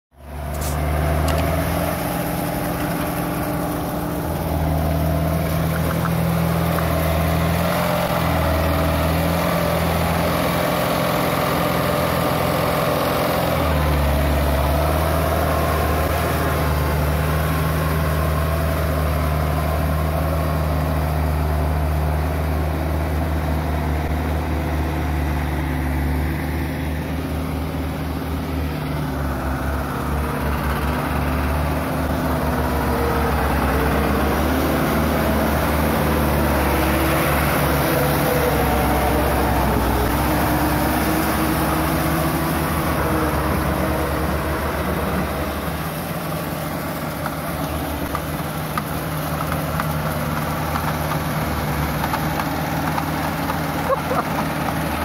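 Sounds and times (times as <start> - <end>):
tractor diesel engine running: 0.1 - 55.0.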